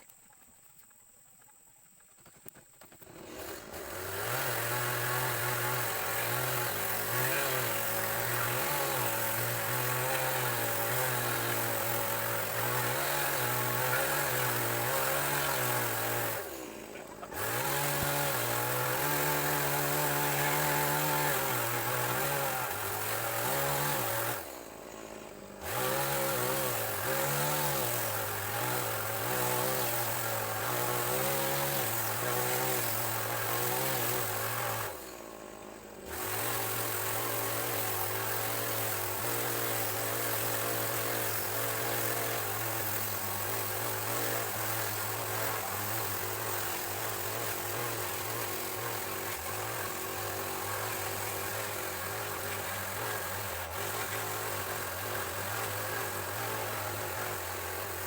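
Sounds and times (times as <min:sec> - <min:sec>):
small power tool motor running: 0:02.9 - 0:58.0.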